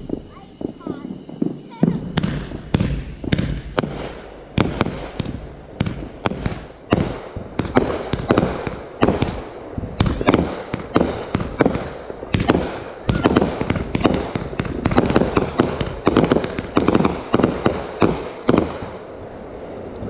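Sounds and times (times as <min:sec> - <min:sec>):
fireworks bangs and cracks: 0:00.0 - 0:20.0
fireworks crackling: 0:00.0 - 0:20.0.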